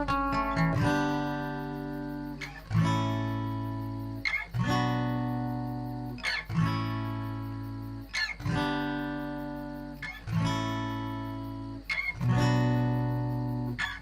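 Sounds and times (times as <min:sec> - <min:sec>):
acoustic guitar strummed chords: 0:00.0 - 0:14.0.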